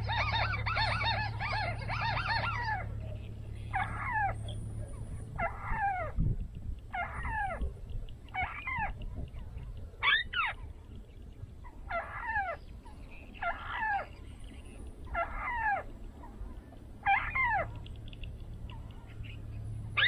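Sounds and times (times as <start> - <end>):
harsh bird calls: 0.0 - 6.2, 6.8 - 20.0
low steady hum: 0.0 - 20.0.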